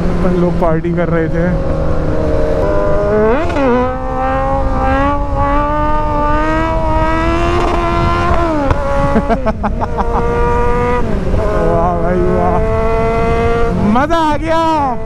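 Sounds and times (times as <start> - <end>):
motorcycle engine revving: 0.0 - 15.0
wind rushing over microphone: 0.0 - 15.0.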